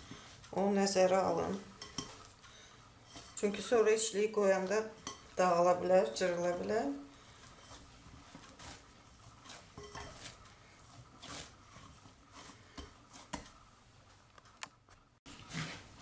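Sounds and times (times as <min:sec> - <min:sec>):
hands kneading dough: 0:00.0 - 0:16.0.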